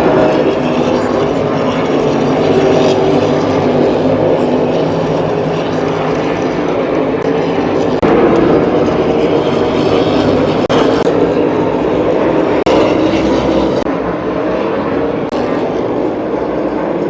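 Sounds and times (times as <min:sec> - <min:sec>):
race car engines howling: 0:00.0 - 0:17.0.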